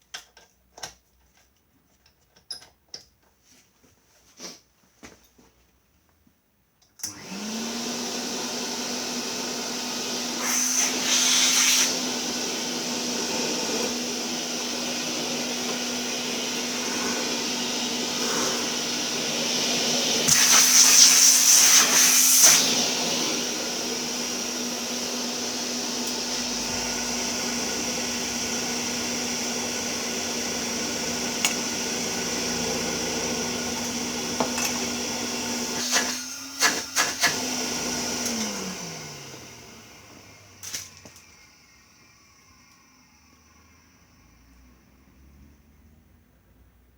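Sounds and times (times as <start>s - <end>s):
vacuum cleaner running: 7.0s - 45.6s.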